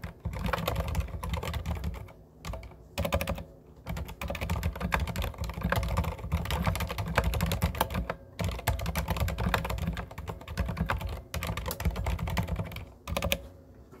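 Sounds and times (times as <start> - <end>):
muted keyboard typing: 0.0 - 13.5.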